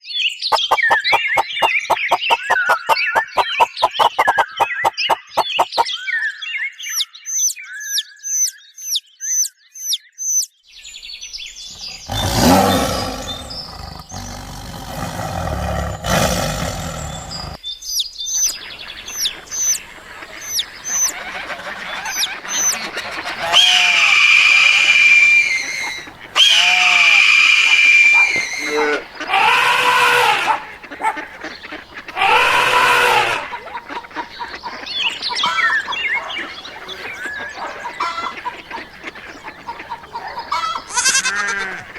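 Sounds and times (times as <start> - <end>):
birds chirping and calling: 0.0 - 41.9.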